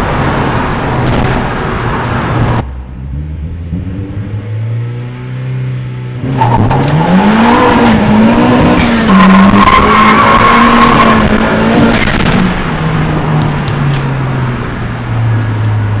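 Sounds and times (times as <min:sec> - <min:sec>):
car engine revving: 0:01.0 - 0:14.8.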